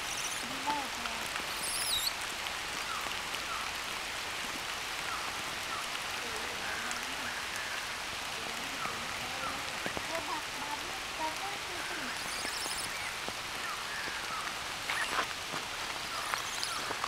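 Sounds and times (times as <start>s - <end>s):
rain on leaves and ground: 0.0s - 17.0s.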